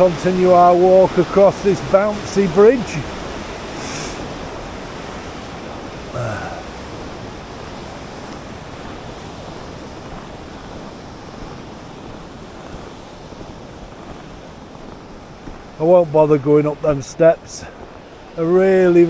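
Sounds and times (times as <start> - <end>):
river rapids rushing: 0.0 - 19.0.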